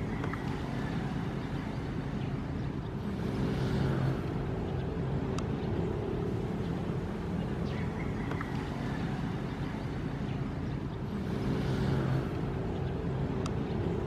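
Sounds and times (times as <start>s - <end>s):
ocean waves rumbling: 0.0s - 14.0s.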